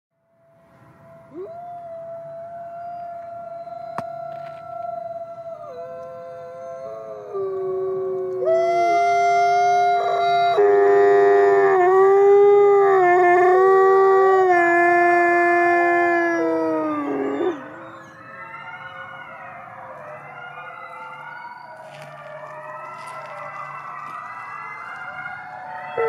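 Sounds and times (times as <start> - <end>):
wolf howling: 1.0 - 26.0.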